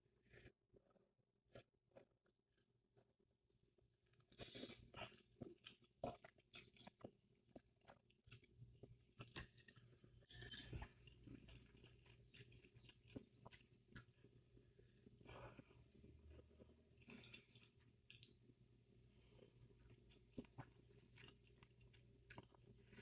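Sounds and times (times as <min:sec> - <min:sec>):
person chewing noodles: 0:00.2 - 0:23.0.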